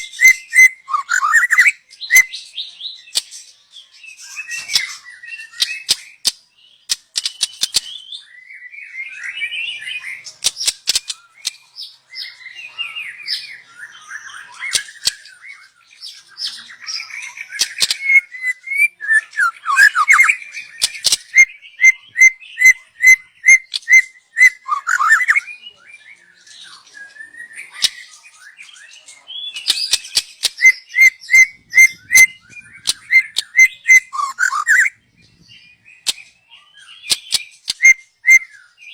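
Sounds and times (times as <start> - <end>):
bird singing warbled phrases: 0.0 - 38.9.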